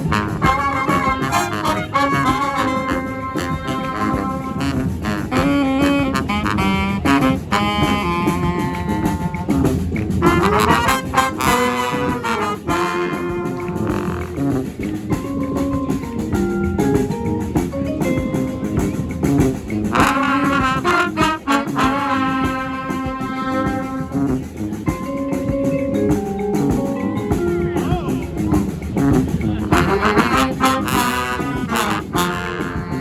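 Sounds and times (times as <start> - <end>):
horn section playing tune: 0.0 - 33.0
steady percussion beat: 0.0 - 33.0.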